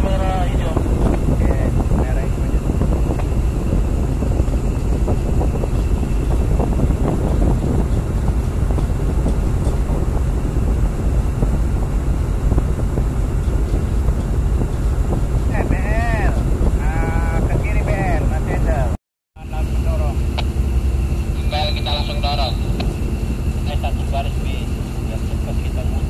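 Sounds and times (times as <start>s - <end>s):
diesel engine running under load: 0.0s - 26.0s
wind buffeting microphone: 0.0s - 26.0s.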